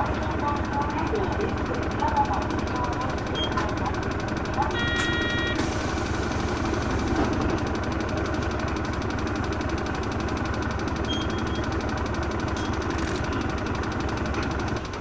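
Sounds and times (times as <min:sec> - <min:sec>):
bus diesel engine idling: 0:00.0 - 0:15.0.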